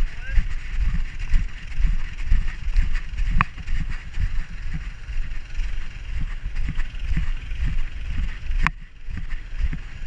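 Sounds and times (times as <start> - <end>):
muffled low thumps and rumble: 0.0 - 10.0.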